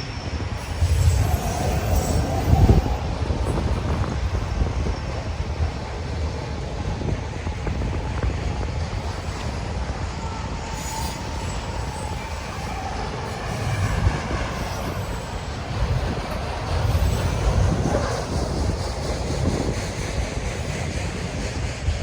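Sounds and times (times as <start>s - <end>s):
train cars rumbling on rails: 0.0s - 22.0s
wind buffeting microphone: 0.1s - 22.0s.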